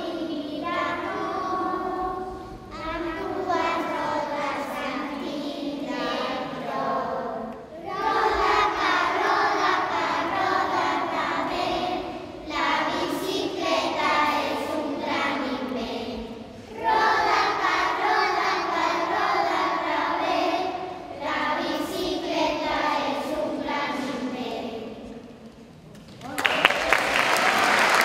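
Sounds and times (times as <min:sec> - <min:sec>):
children's choir singing: 0:00.0 - 0:25.4.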